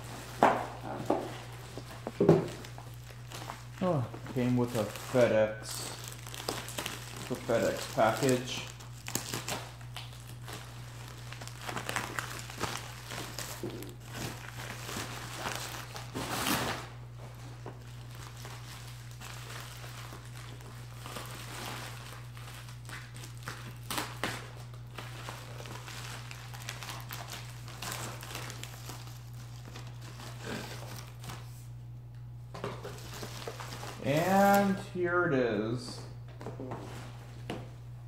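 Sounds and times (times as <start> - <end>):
package wrapping crinkling: 0.0 - 31.7, 32.6 - 34.8
steady low hum: 0.0 - 38.0.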